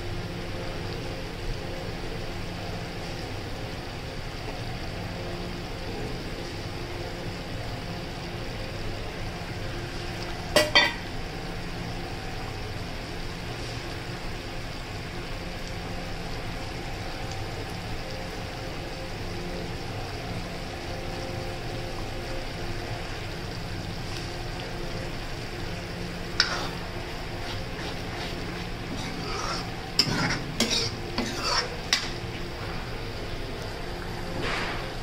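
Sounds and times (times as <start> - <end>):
constant hum: 0.0 - 35.0
sauce bubbling and sizzling: 0.0 - 35.0.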